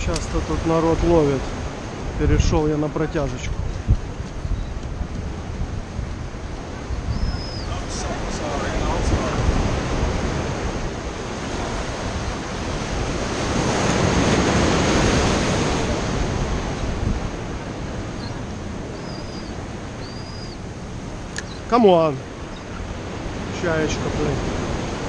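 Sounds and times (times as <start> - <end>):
churning whitewater: 0.0 - 25.0
wind on microphone: 0.0 - 25.0.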